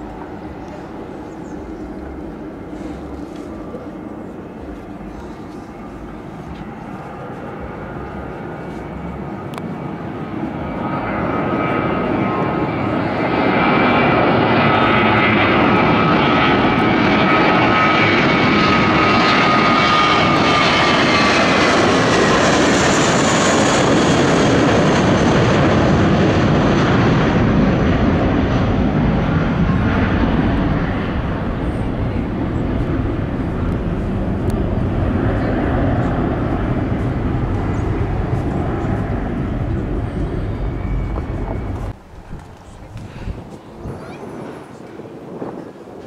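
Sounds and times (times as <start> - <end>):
jet airliner taking off: 0.0 - 46.0.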